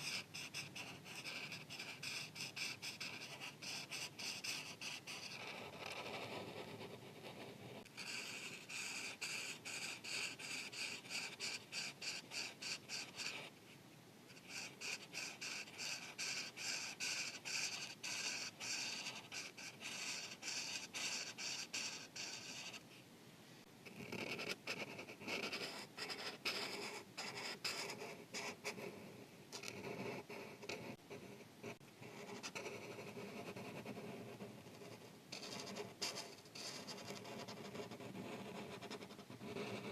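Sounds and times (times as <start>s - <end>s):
markers scratching on paper: 0.0s - 13.5s, 14.3s - 22.8s, 23.9s - 29.0s, 29.6s - 39.9s.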